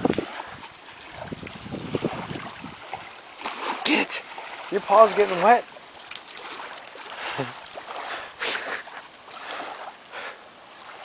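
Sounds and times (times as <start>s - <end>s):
small waves washing onto sand: 0.0s - 11.0s.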